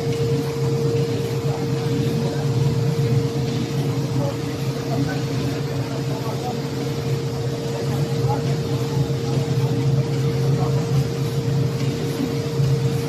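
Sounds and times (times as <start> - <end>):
machinery humming: 0.0 - 13.0
steady higher machine tone: 0.0 - 13.0.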